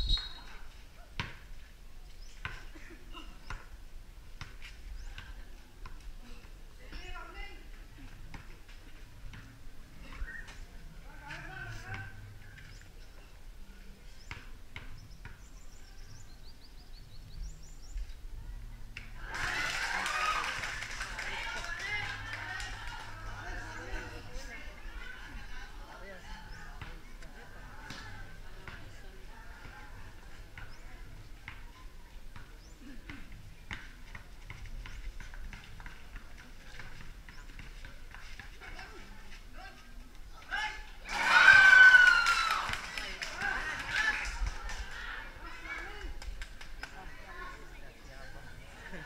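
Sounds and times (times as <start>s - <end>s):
crowd noise hum: 0.0s - 49.0s.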